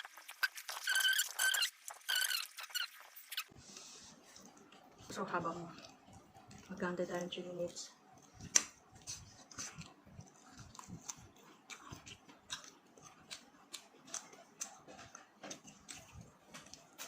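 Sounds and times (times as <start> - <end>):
wet chewing and crunching: 0.0 - 17.0.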